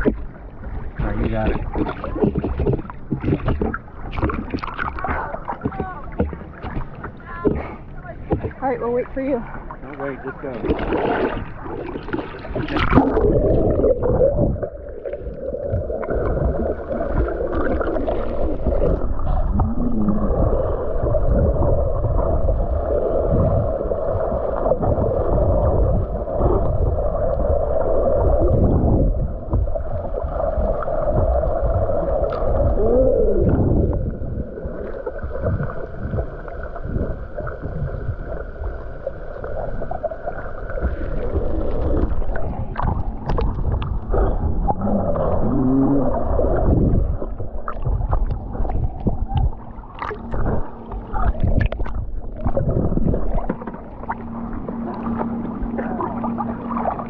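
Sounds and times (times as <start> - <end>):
muffled underwater rumbling and gurgling: 0.0 - 57.0.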